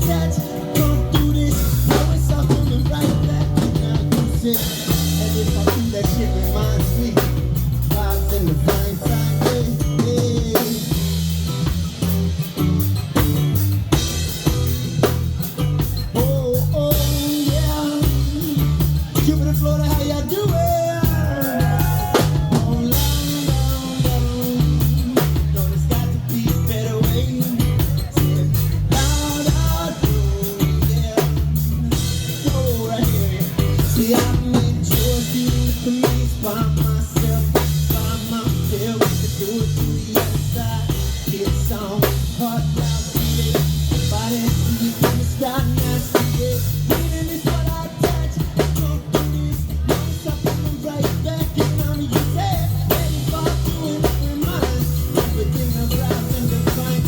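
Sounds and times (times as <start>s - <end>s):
drum kit with rimshots: 0.0s - 57.0s
heavy steady bass line: 0.0s - 57.0s.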